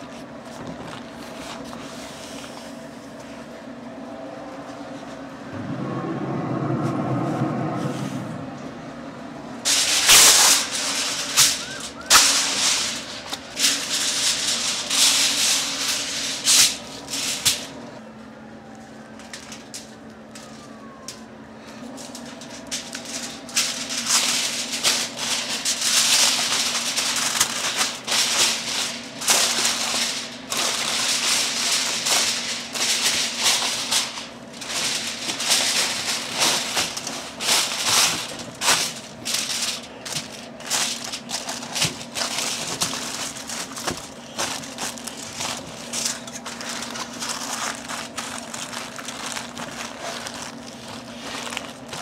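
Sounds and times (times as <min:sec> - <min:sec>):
aluminium foil crinkling: 0:09.6 - 0:18.0, 0:18.6 - 0:52.0.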